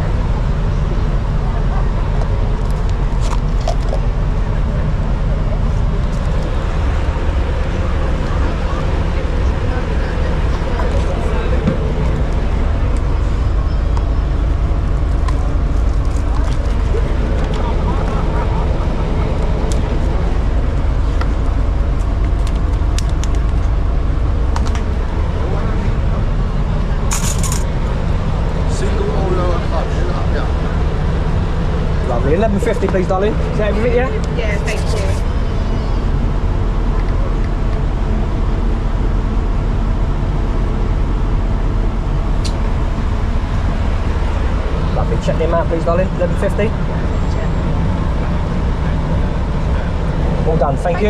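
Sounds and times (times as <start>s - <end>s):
machinery low rumble: 0.0s - 51.0s
van engine idling: 0.0s - 51.0s.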